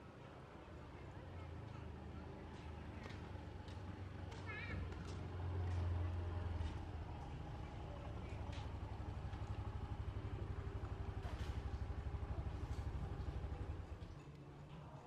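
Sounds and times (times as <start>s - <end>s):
vehicle engine running: 0.8s - 14.7s.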